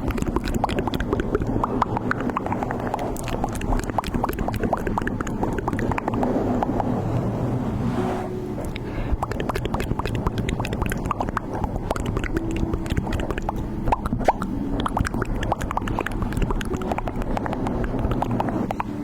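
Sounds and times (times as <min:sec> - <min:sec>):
slime squeezed wet pops: 0:00.0 - 0:06.9, 0:08.6 - 0:18.8
low steady rumble: 0:00.0 - 0:19.0.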